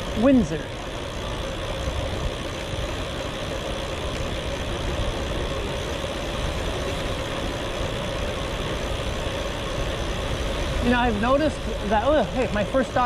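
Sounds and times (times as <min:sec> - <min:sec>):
mid-pitched hum: 0:00.0 - 0:13.0
road and traffic noise: 0:00.0 - 0:13.0
wind rumble: 0:00.0 - 0:13.0.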